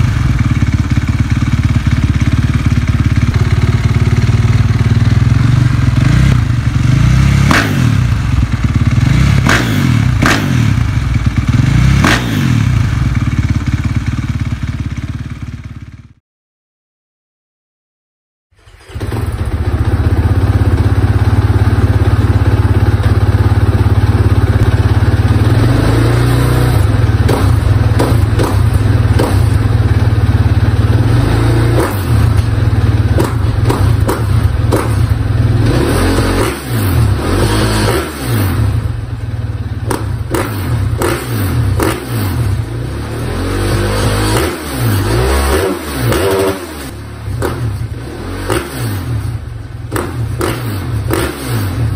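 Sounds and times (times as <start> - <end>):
dirt bike engine revving: 0.0 - 15.6, 18.7 - 39.2, 39.8 - 51.9.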